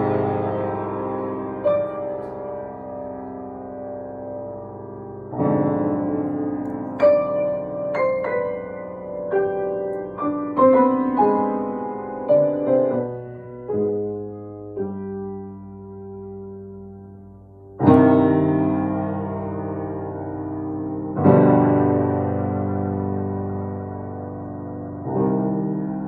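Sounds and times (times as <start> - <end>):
slow mournful grand piano: 0.0 - 26.0.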